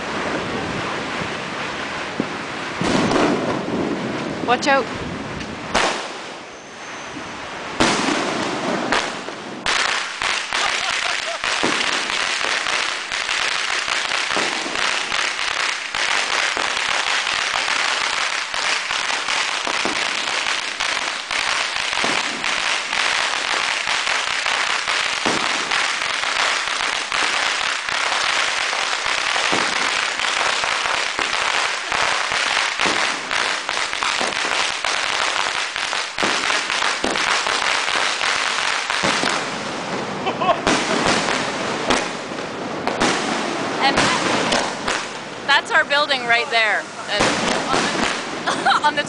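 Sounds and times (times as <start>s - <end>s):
firecrackers crackling: 0.0s - 49.0s
firework bangs: 0.0s - 49.0s.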